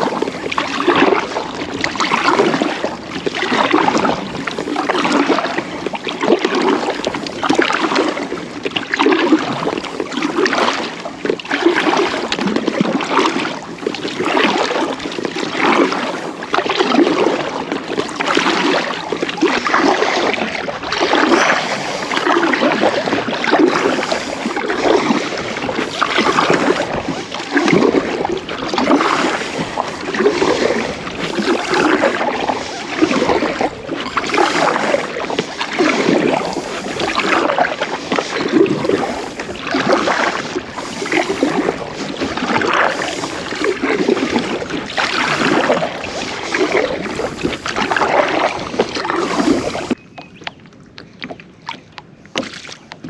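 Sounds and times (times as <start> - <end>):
paddle splashing through water: 0.0 - 53.0
water washing along hull: 0.0 - 53.0.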